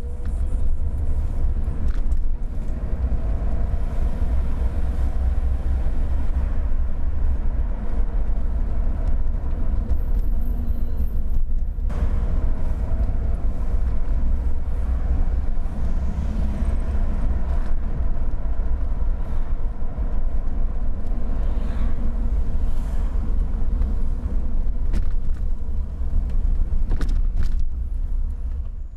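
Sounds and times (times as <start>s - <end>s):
car engine and tyre road noise: 0.0s - 28.9s.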